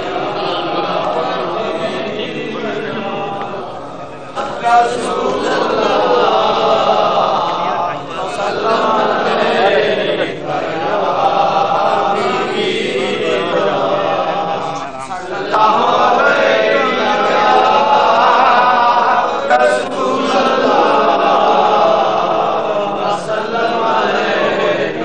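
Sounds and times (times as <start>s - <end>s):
crowd of men chanting: 0.0s - 25.0s.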